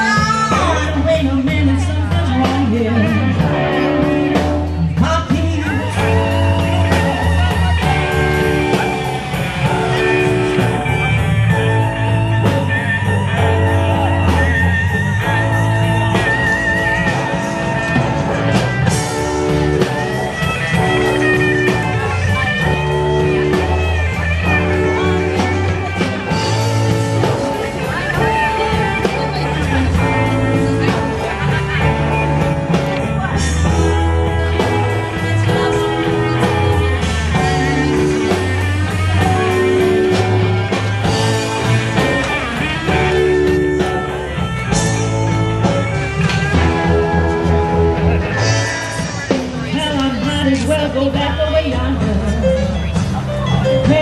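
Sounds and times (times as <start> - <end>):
electric guitar: 0.0 - 54.0
low bass line: 0.0 - 54.0.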